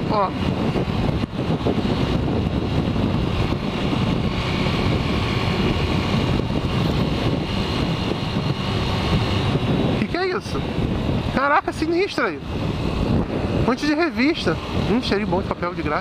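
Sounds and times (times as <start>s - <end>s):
motorcycle engine running: 0.0s - 16.0s
wind rushing on microphone: 0.0s - 16.0s.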